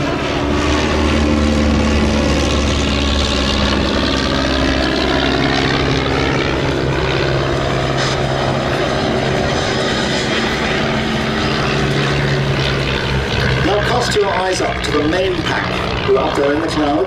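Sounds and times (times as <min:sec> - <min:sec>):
biplanes droning past: 0:00.0 - 0:17.0.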